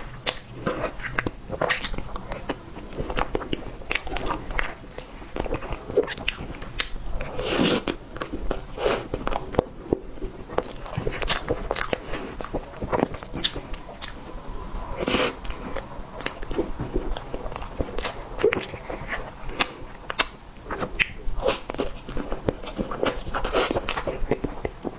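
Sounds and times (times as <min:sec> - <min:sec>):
person chewing: 0:00.0 - 0:24.9.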